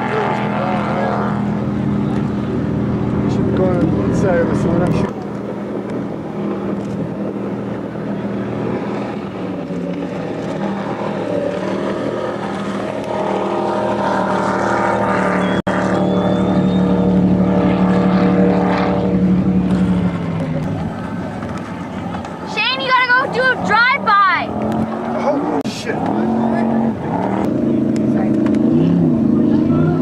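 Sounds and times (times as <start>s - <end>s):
motorboat engines running: 0.0s - 30.0s.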